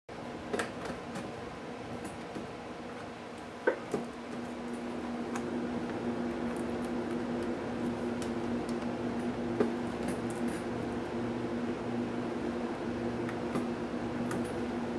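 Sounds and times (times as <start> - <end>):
steady low hum: 0.1 - 14.9.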